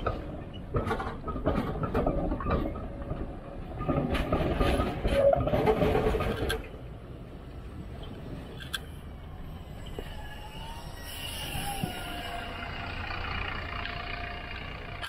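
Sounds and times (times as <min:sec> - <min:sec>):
tram running noise: 0:00.0 - 0:15.0
tram wheels clunking over joints: 0:00.0 - 0:15.0.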